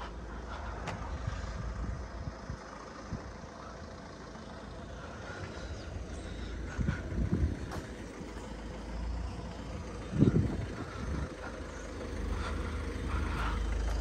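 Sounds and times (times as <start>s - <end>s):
heavy vehicle engine rumble: 0.0s - 14.0s.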